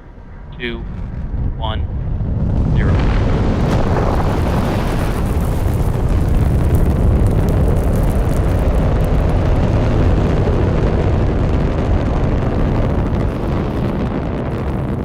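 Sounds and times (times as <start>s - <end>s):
rocket engine deep rumble: 0.0s - 15.0s.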